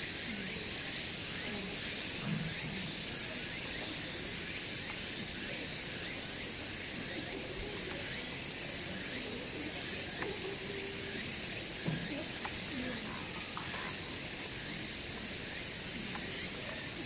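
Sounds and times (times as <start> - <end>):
cicadas shrill drone: 0.0 - 17.0.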